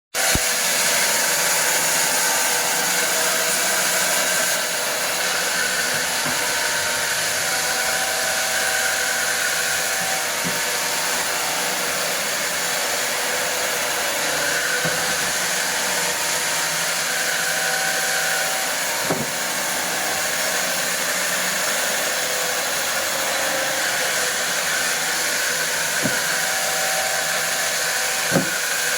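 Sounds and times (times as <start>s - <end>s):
wood-cutting machine whirring: 0.2s - 28.9s.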